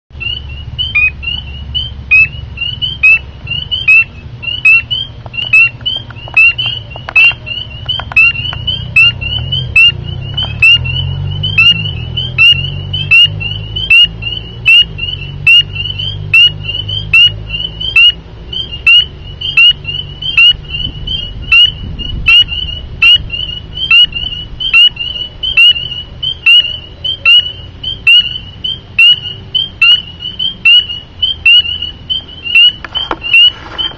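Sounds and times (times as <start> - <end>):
frog peeping: 0.1 - 33.9
low steady rumble: 0.1 - 33.9.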